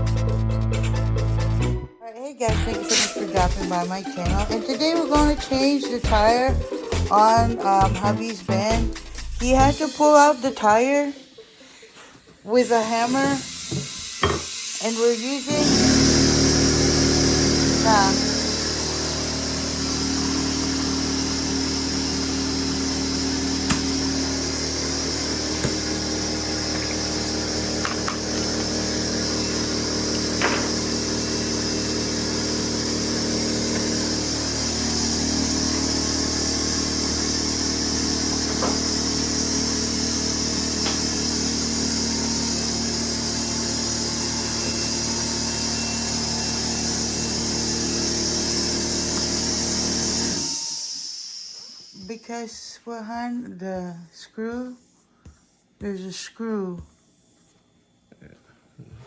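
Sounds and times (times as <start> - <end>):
small motor humming: 2.5 - 52.2.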